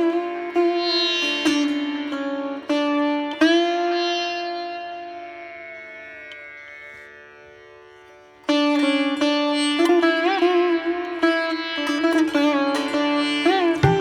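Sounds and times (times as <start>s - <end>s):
plucked string instrument: 0.0s - 7.0s, 8.5s - 14.0s.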